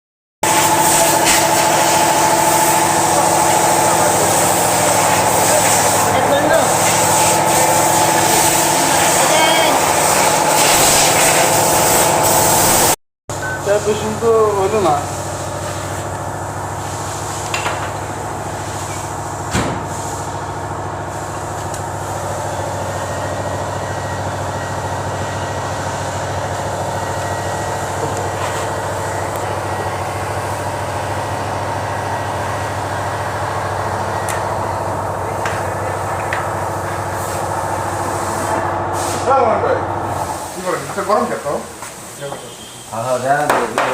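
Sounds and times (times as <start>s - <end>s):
machine motor running: 0.4s - 12.9s, 13.6s - 40.4s.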